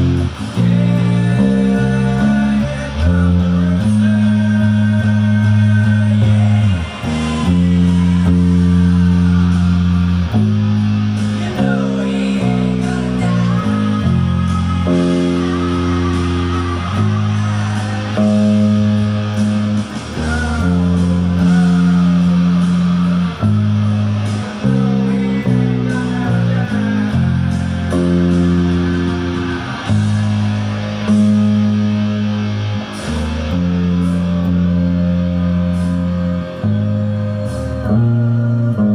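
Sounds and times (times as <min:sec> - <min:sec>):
bass guitar: 0:00.0 - 0:38.9
heavy rock guitar chords: 0:00.0 - 0:38.9.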